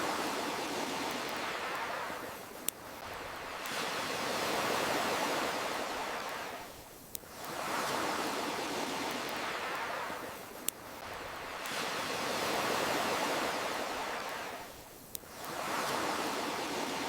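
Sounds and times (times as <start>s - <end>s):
campfire crackling pops: 0.0s - 7.6s, 8.8s - 15.6s
ocean waves washing in: 0.0s - 17.0s.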